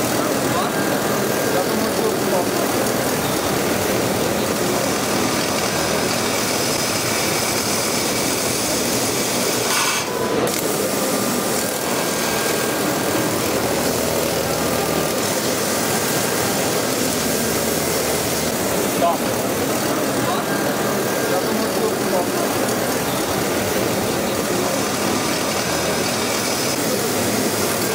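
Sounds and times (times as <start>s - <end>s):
laser cutting machine hissing: 0.0s - 27.9s.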